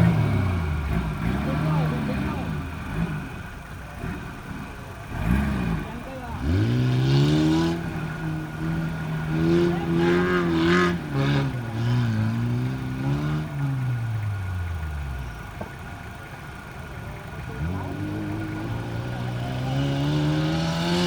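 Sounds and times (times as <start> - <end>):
racing engine at high revs: 0.0 - 21.0.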